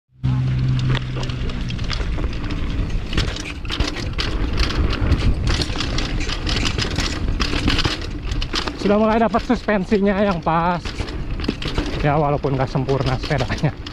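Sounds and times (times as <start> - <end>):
mountain bike rattling over trail: 0.2 - 13.9
wind rumble on microphone: 0.2 - 13.9.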